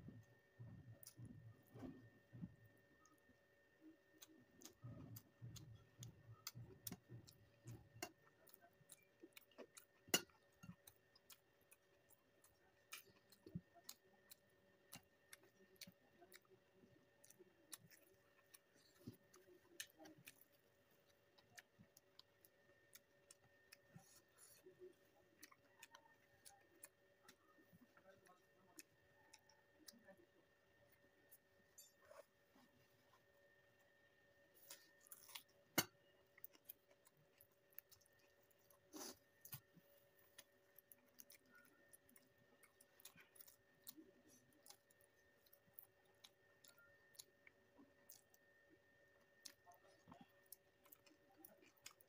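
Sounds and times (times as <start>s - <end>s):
faint steady hum: 0.0s - 52.0s
chewing and eating clicks: 4.1s - 30.2s, 35.1s - 52.0s.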